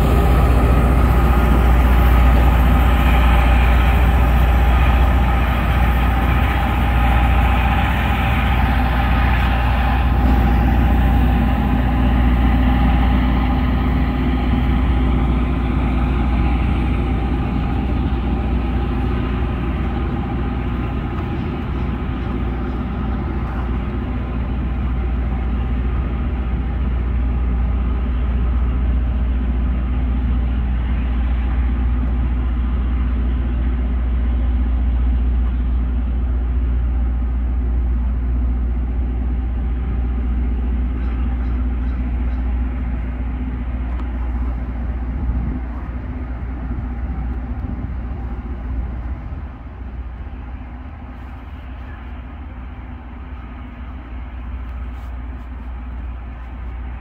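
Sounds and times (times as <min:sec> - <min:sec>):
heavy engine drone: 0:00.0 - 0:57.0
rail grinding noise: 0:00.0 - 0:57.0.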